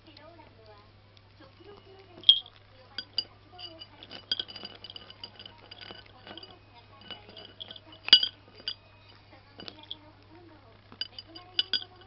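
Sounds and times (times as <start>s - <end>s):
crackers clinking against bowl: 1.6s - 12.0s.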